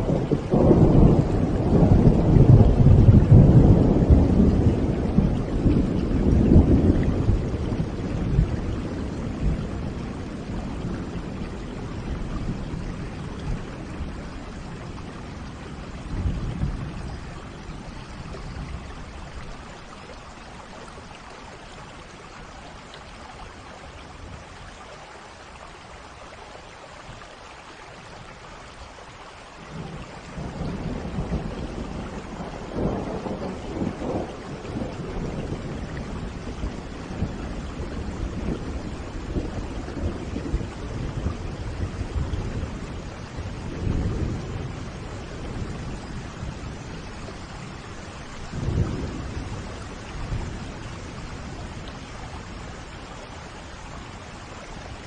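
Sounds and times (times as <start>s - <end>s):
thunder rumbling: 0.0s - 21.2s, 29.7s - 55.0s
steady rain: 0.0s - 55.0s.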